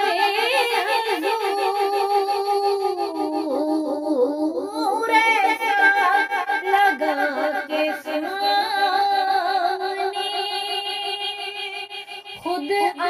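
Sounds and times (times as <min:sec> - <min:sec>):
woman singing devotional song: 0:00.0 - 0:13.0.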